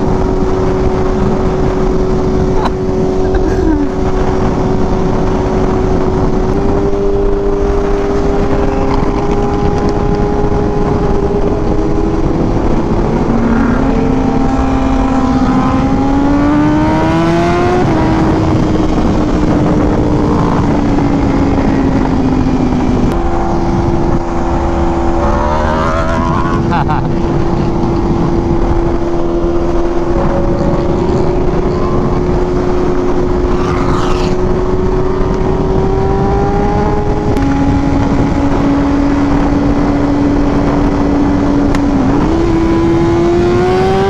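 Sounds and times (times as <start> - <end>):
motorcycle engine revving: 0.0 - 44.0
wind noise on microphone: 0.0 - 44.0.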